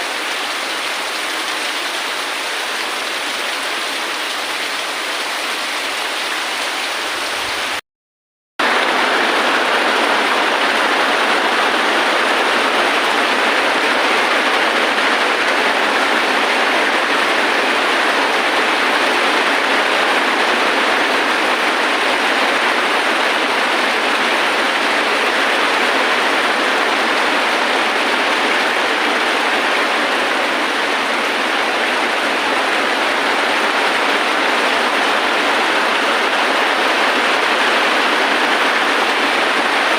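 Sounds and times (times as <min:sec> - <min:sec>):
heavy rain: 0:00.0 - 0:07.8, 0:08.6 - 0:39.9.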